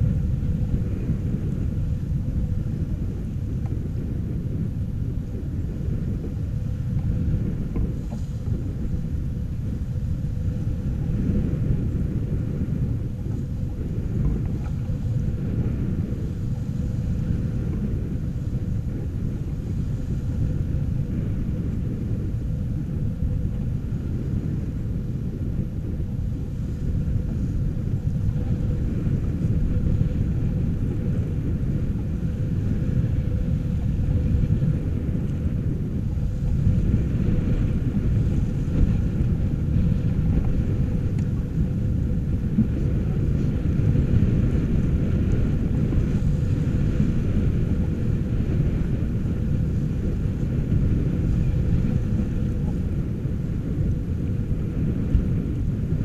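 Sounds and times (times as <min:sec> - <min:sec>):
water rushing along hull: 0:00.0 - 0:56.0
wind buffeting microphone: 0:00.0 - 0:56.0.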